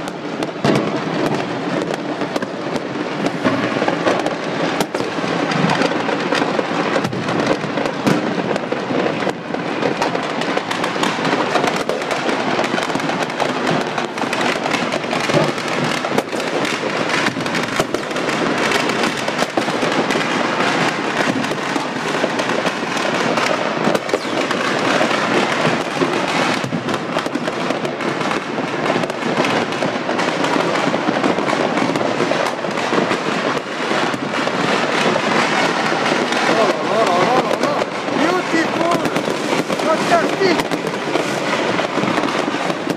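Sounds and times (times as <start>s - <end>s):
fireworks crackling and banging: 0.0s - 42.9s.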